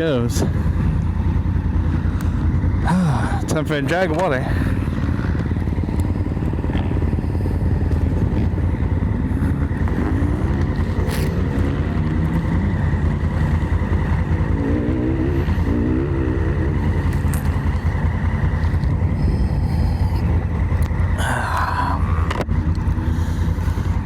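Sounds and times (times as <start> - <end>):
higher engine note wavering: 0.0 - 24.0
motorcycle engine idling: 0.0 - 24.0.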